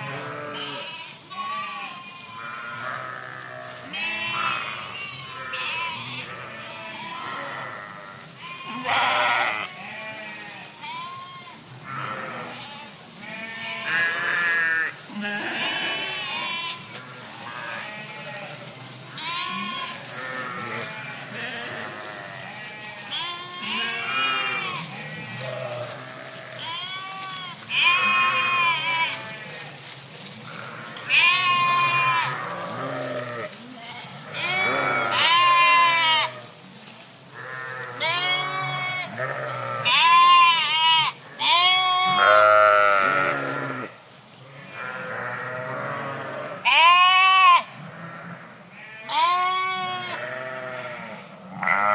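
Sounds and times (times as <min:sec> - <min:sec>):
sheep bleating: 0:00.0 - 0:29.8, 0:30.5 - 0:36.5, 0:37.4 - 0:51.9.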